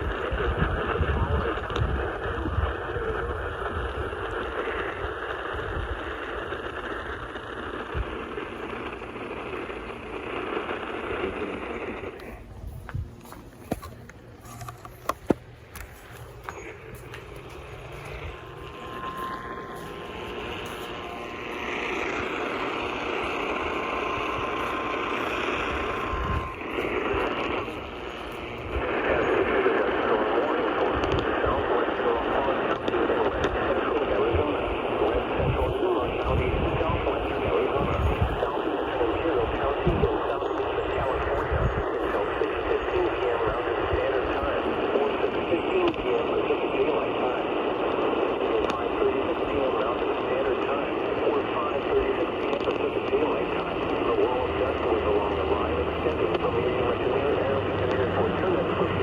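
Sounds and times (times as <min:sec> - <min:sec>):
radio static hiss: 0:00.0 - 0:59.0
uneven low rumble: 0:00.1 - 0:59.0
faint steady tone: 0:01.4 - 0:59.0.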